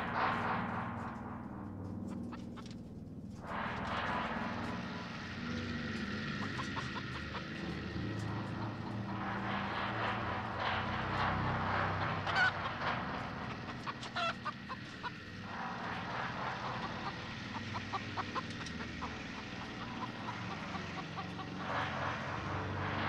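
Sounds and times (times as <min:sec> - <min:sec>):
steady low hum: 0:00.0 - 0:23.0
bird calls: 0:01.9 - 0:23.0.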